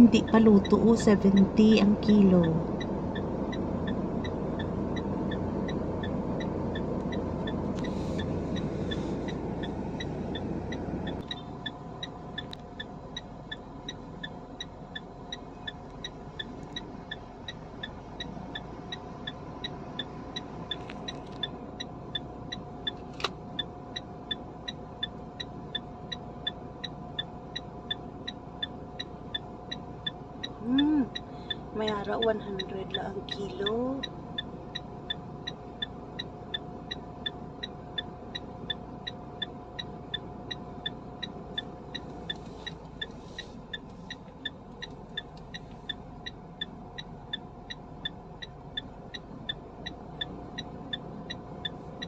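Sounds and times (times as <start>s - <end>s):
regular ticking: 0.0s - 52.0s
vehicle engine and road noise: 0.0s - 52.0s.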